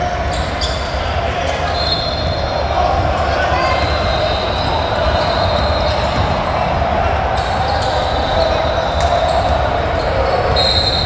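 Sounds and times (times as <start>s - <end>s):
din of crowd voices: 0.0s - 11.0s.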